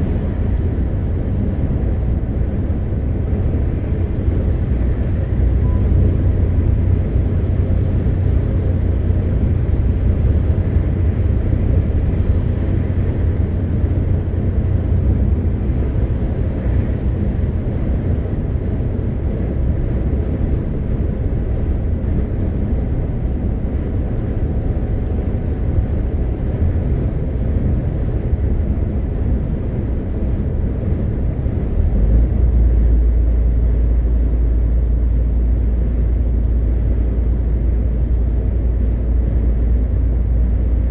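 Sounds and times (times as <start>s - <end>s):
truck diesel engine running: 0.0s - 40.9s
tyre and road noise: 0.0s - 40.9s.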